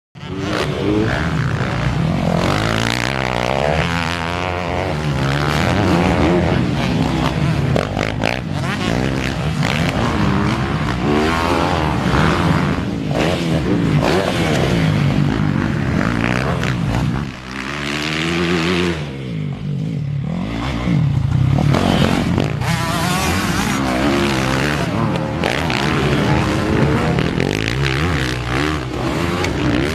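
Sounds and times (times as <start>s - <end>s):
motocross bike engine revving: 0.2s - 29.9s.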